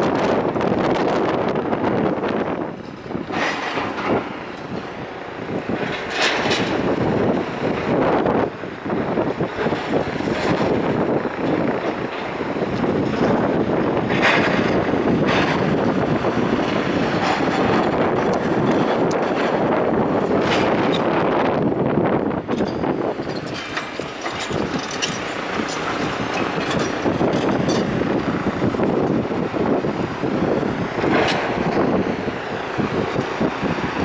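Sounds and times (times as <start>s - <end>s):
wind buffeting the microphone: 0.0s - 34.0s.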